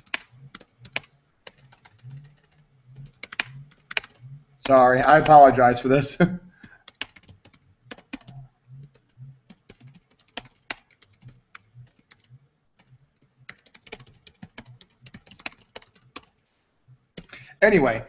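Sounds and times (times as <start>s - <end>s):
laptop keyboard typing: 0.0s - 5.6s, 6.6s - 16.5s, 17.1s - 17.4s.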